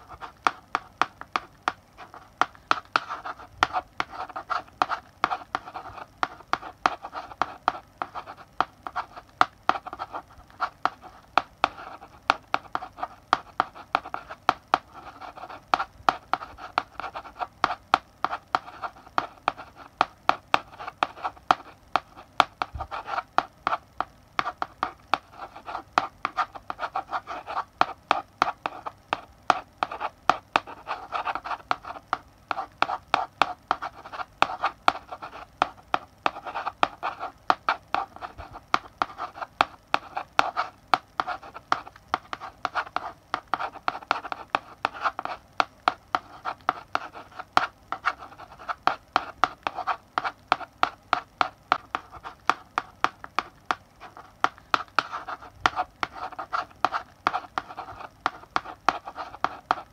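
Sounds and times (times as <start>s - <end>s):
chalk writing on blackboard: 0.0s - 59.9s.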